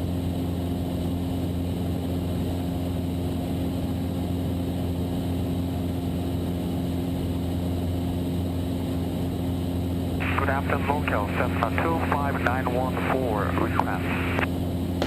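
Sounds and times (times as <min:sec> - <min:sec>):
airplane engine droning: 0:00.0 - 0:15.0.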